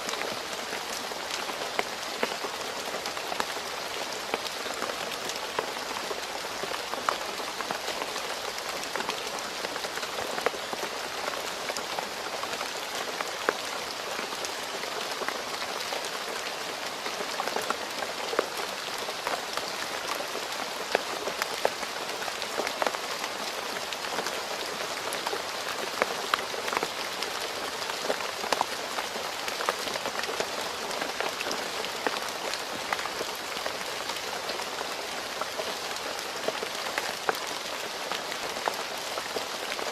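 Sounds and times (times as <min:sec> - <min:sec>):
rain on road: 0:00.0 - 0:39.9.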